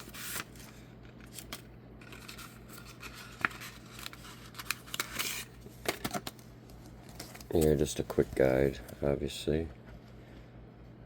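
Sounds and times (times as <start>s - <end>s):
paper packet rustling: 0.0s - 9.0s.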